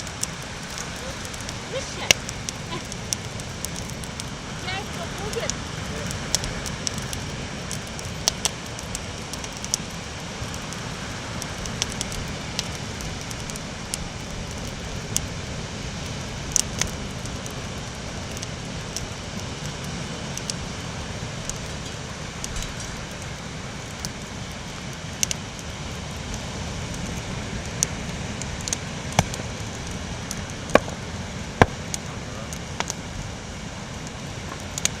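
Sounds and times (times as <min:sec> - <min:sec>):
campfire crackling with pops: 0:00.0 - 0:35.0
steady low rushing noise: 0:00.0 - 0:35.0.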